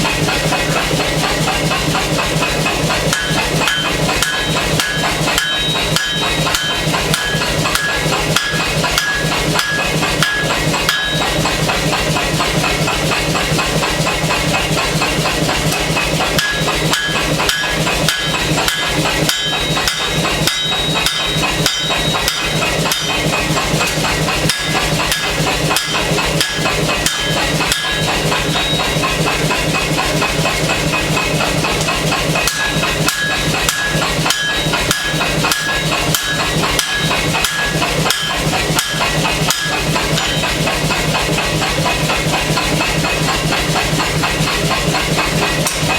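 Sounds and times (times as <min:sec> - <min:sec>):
hammer blows on hot steel: 0:00.0 - 0:45.9.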